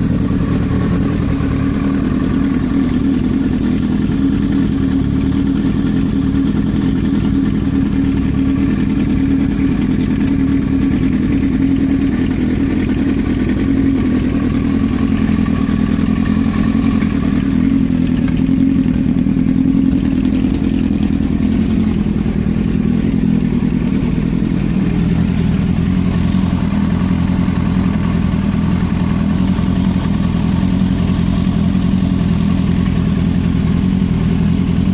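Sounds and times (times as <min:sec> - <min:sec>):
motorcycle engine knocking: 0:00.0 - 0:34.9.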